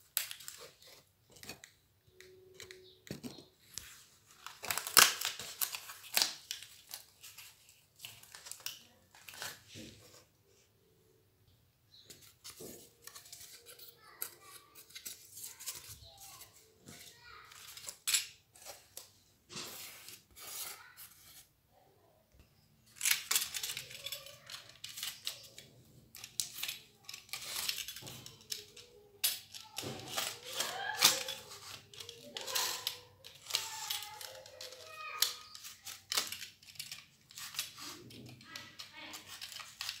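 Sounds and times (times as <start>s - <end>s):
cardboard and paper rustling: 0.0s - 10.7s, 12.0s - 21.6s, 22.9s - 40.0s.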